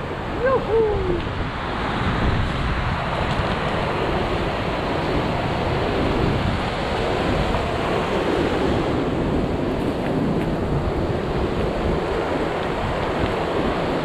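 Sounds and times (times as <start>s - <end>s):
surf washing against rocks: 0.0s - 14.0s
wind buffeting microphone: 0.0s - 14.0s.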